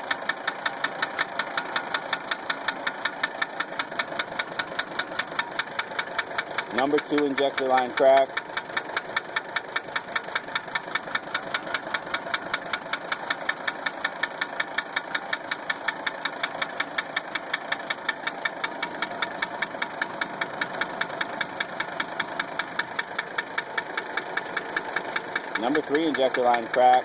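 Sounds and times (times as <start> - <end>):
diesel engine idling: 0.0 - 27.0
sharp regular engine knock: 0.0 - 27.0.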